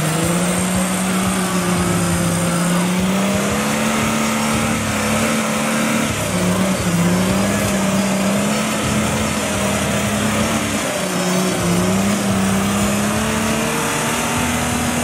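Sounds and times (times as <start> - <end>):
buggy engine at high revs: 0.0 - 15.0.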